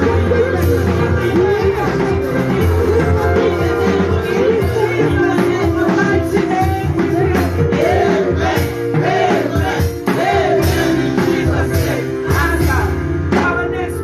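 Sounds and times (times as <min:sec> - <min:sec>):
steady beat: 0:00.0 - 0:13.8
held keyboard chords: 0:00.0 - 0:14.0
voices singing: 0:00.0 - 0:14.0.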